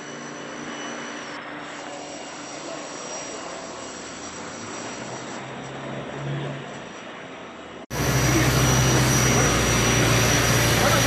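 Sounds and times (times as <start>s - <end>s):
city street traffic roar: 0.0s - 11.0s.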